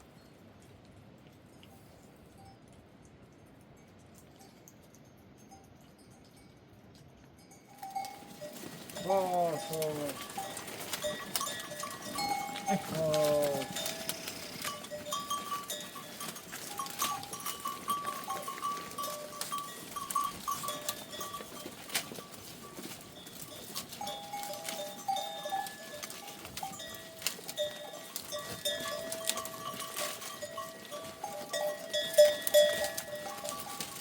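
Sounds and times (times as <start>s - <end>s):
goat bells ringing: 2.3s - 34.0s.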